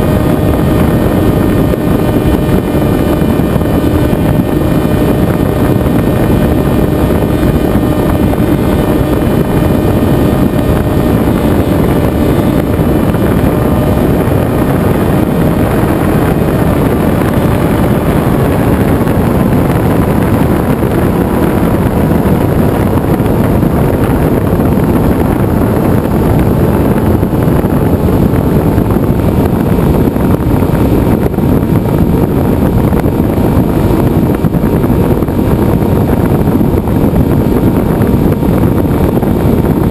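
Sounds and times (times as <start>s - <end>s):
propeller motor running: 0.0s - 39.9s
wind rush on microphone: 0.0s - 39.9s.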